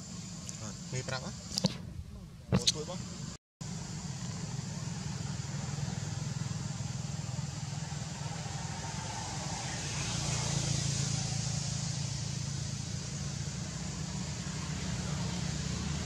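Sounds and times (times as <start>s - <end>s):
low engine hum: 0.0s - 16.0s
broad hiss: 2.5s - 16.0s.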